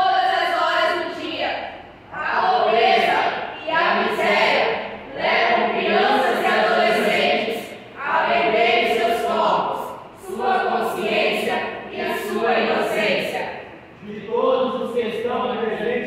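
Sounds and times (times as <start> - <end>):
group of voices reciting in unison: 0.0 - 16.0.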